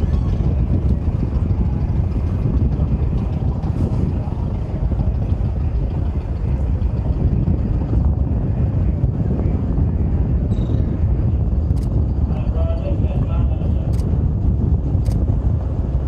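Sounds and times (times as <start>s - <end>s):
distant airplane engine drone: 0.0s - 16.0s
wind buffeting microphone: 0.0s - 16.0s.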